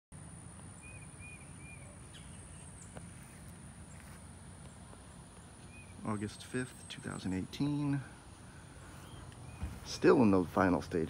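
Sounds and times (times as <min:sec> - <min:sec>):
bird chirping: 0:00.6 - 0:10.4.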